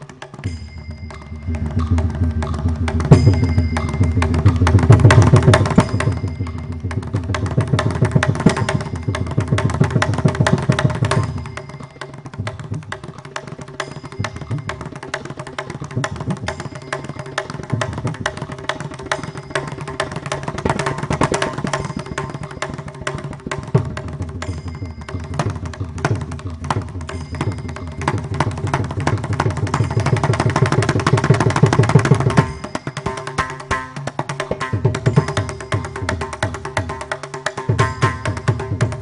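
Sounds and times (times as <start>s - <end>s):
hand drum solo: 0.0s - 39.0s.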